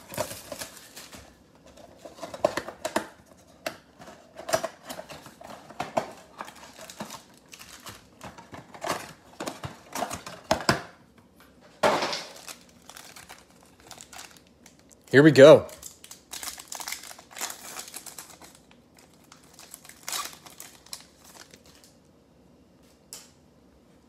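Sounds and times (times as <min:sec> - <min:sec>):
foil pack crinkling: 0:00.0 - 0:03.4, 0:04.0 - 0:10.5, 0:12.1 - 0:22.0.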